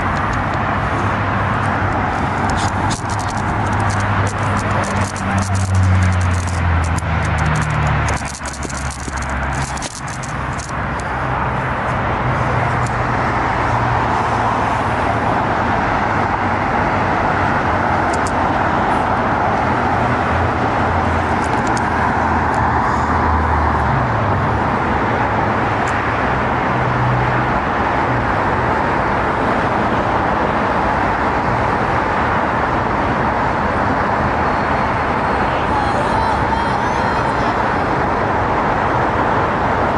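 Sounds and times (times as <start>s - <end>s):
city traffic roar: 0.0s - 39.9s.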